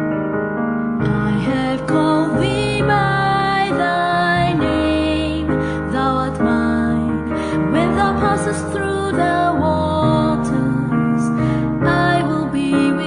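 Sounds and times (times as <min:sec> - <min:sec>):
sustained piano chords: 0:00.0 - 0:13.0
person singing slow song: 0:01.0 - 0:13.0.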